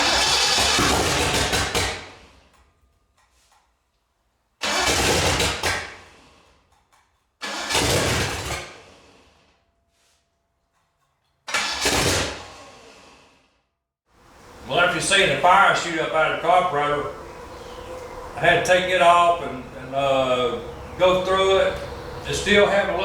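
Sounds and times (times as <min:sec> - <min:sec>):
engine cranking on starter: 0:00.0 - 0:02.8, 0:04.6 - 0:09.6, 0:10.7 - 0:13.7, 0:14.5 - 0:23.0.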